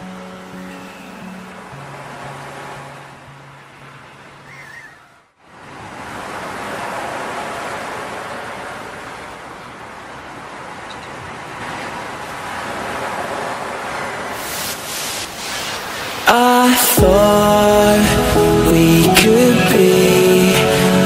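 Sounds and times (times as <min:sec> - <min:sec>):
ocean waves washing in: 0:00.0 - 0:04.5, 0:05.4 - 0:21.0.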